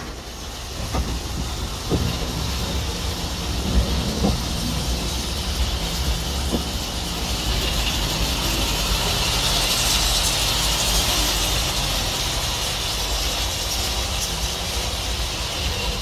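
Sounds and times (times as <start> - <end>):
hiss: 0.0 - 16.0
model train rumbling: 0.0 - 16.0.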